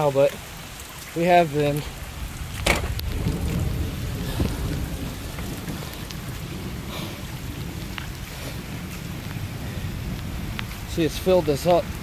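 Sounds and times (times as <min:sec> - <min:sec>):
rain falling on water: 0:00.0 - 0:12.0
steady low rumble: 0:00.7 - 0:12.0.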